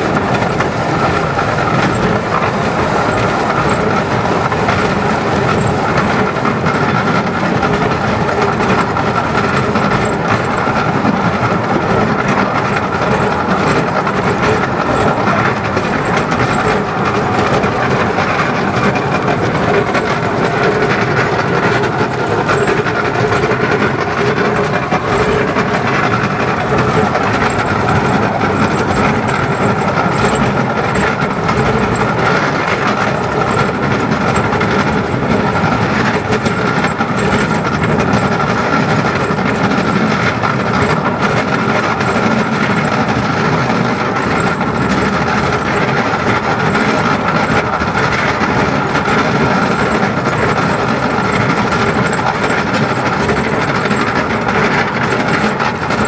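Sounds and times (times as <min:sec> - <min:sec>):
steam locomotive running: 0:00.0 - 0:56.0
wheel and rail noise: 0:00.0 - 0:56.0.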